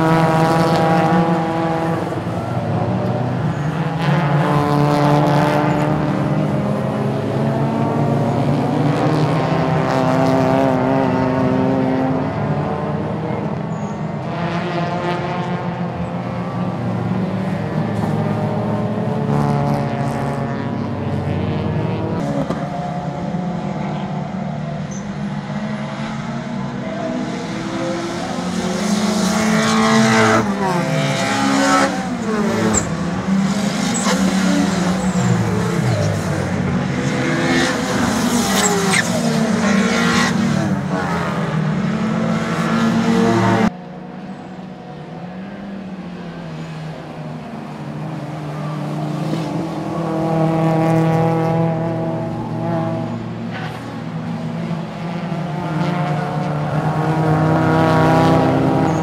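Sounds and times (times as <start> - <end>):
race car engines revving: 0.0 - 59.0
race cars passing close: 0.0 - 59.0.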